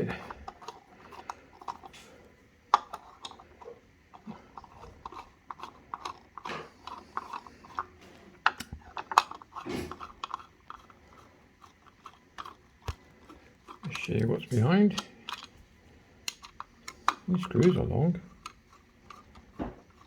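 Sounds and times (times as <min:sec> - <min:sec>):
screwdriver clicking and scraping: 0:00.0 - 0:02.1, 0:02.7 - 0:15.6, 0:16.2 - 0:20.0.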